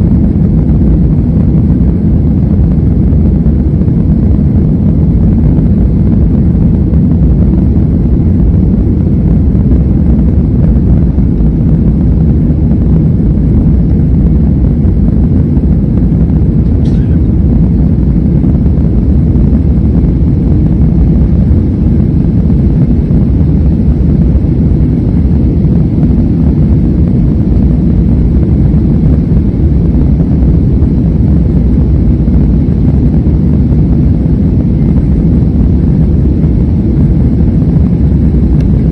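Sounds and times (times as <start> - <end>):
jet engines roaring: 0.0 - 38.9
rushing air: 0.0 - 38.9.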